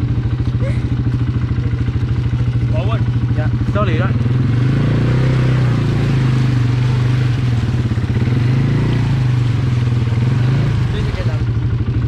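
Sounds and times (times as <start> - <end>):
quad bike engine idling: 0.0 - 12.0.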